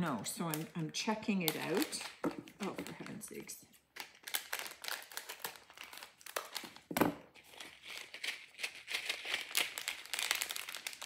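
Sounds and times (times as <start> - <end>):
plastic packaging crinkling: 0.2 - 11.0.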